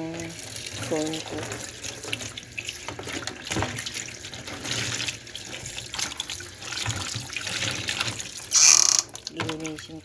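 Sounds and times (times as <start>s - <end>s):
rag rinsed and squeezed in water: 0.0s - 10.0s
tap running into basin: 0.0s - 10.0s.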